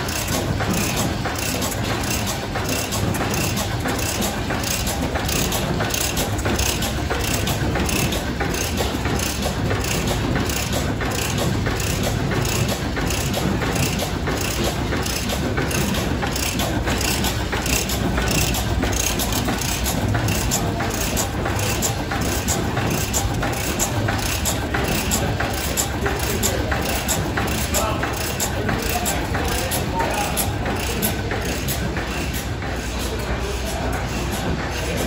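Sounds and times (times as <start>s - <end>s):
stationary engines clattering: 0.0s - 35.0s.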